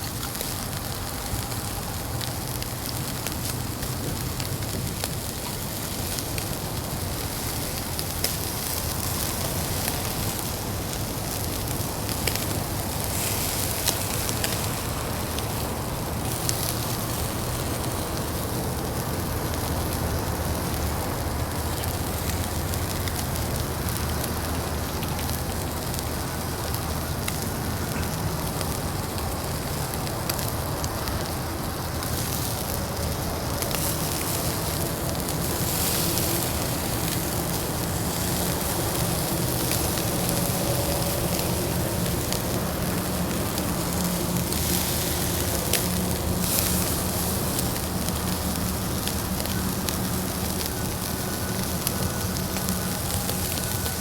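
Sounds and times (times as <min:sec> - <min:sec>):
fire hissing: 0:00.0 - 0:54.0
fire popping: 0:00.0 - 0:54.0.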